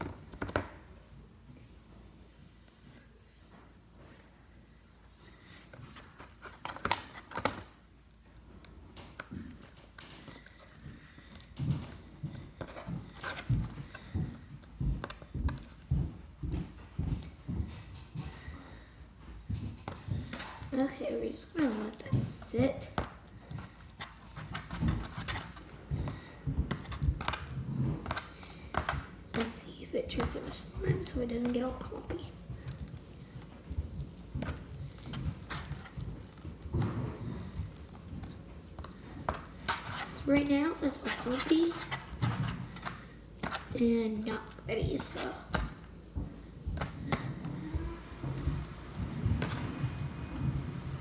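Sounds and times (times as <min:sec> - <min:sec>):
objects tapping and knocking: 0:00.0 - 0:01.0, 0:05.6 - 0:51.0.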